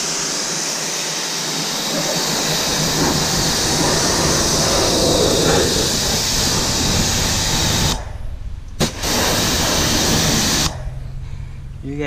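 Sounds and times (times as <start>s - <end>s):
pressure washer spraying water: 0.0s - 8.0s, 8.8s - 10.7s.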